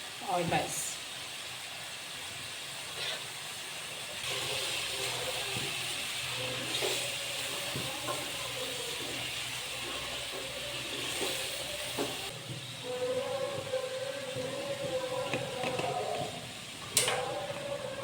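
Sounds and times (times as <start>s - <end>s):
curry sizzling in a pan: 0.0s - 18.0s.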